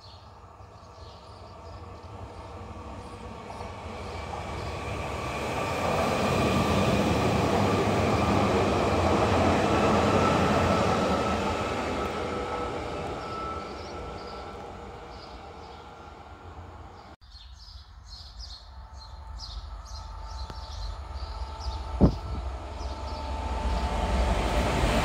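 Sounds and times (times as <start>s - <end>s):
electric train passing: 0.2s - 17.2s, 18.6s - 25.0s.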